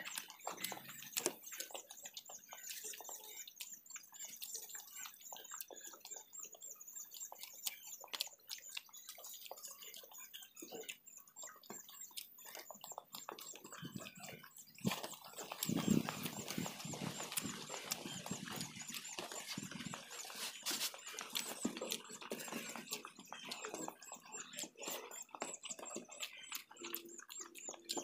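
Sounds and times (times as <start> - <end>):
person chewing and lip-smacking: 0.0 - 28.0.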